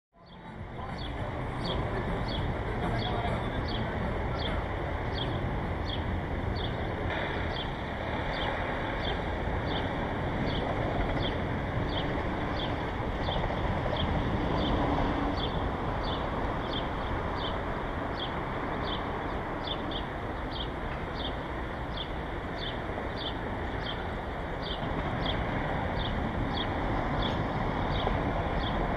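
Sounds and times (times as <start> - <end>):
distant traffic: 0.1 - 28.9.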